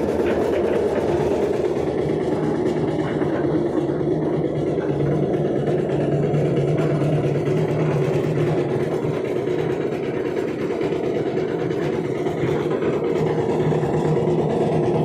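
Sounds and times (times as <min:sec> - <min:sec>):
cement mixer engine humming: 0:00.0 - 0:15.0.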